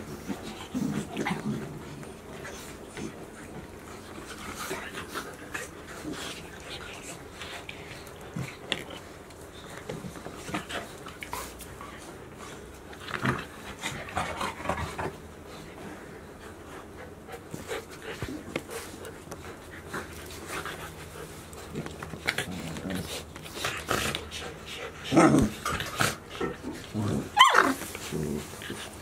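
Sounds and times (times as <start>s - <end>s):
puppies panting: 0.0s - 26.9s
puppies play growling: 0.0s - 29.0s.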